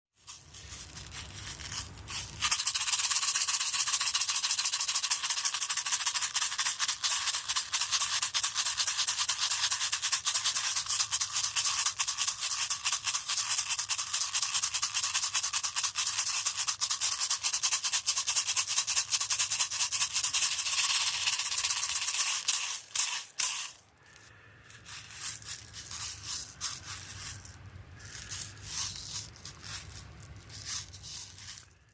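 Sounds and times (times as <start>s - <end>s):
hand rattle shaken rapidly: 0.2s - 31.9s
soft scattered rattle shakes: 0.3s - 31.8s.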